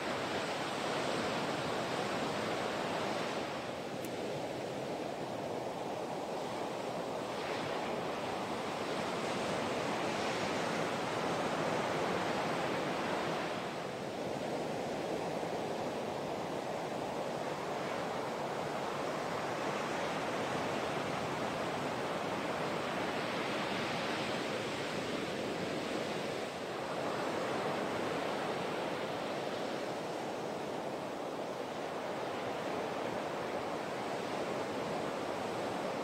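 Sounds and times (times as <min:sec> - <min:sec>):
waves breaking on beach: 0:00.0 - 0:36.0.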